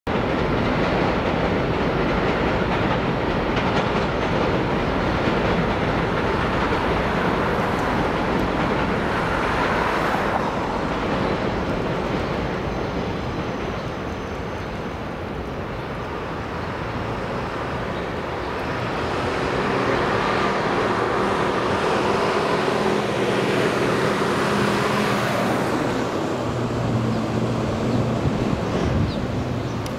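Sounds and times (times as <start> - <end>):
elevated train running: 0.1 - 29.9
street traffic: 0.1 - 29.9.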